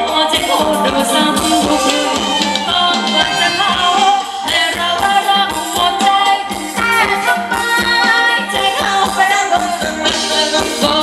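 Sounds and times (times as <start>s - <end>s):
band playing dance music: 0.0s - 11.0s.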